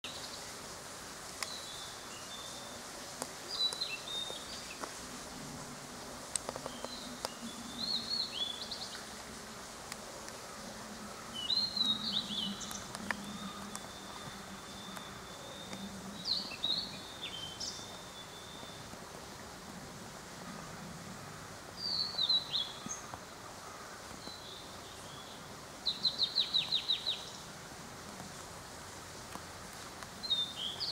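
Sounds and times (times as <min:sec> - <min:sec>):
small songbirds singing: 0:00.0 - 0:05.6, 0:06.3 - 0:19.4, 0:21.7 - 0:27.5, 0:29.2 - 0:30.9
steady outdoor hiss: 0:00.0 - 0:30.9.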